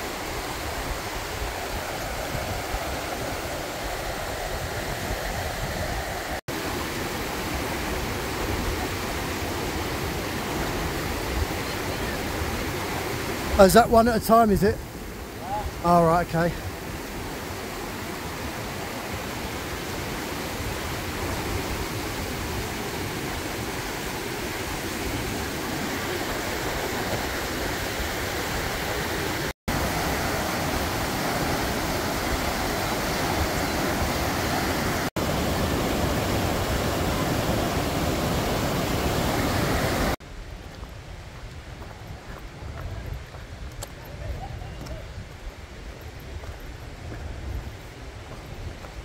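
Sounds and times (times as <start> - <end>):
whitewater rushing over boulders: 0.0 - 49.0.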